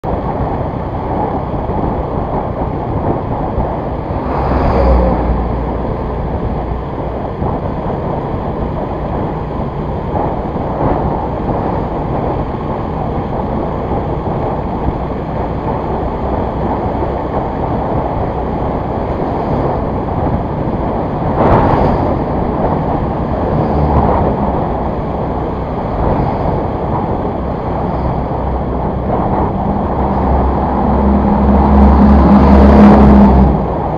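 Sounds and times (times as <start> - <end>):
wind rush on microphone: 0.0 - 33.9.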